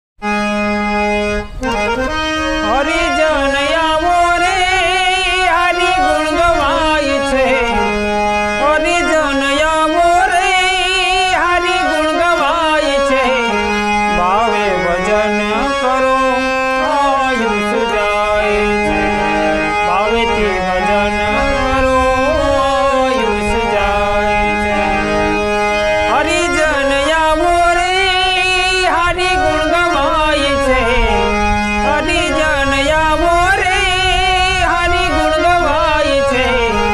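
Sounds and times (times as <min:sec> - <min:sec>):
harmonium melody over drone: 0:00.2 - 0:36.9.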